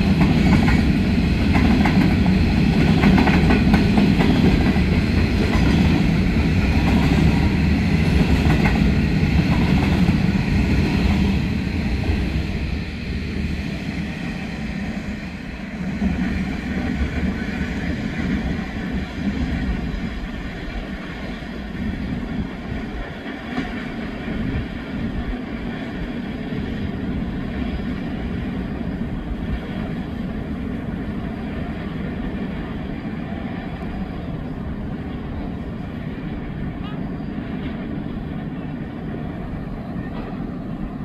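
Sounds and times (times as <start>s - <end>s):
freight train wheels rumbling on rails: 0.0s - 41.0s.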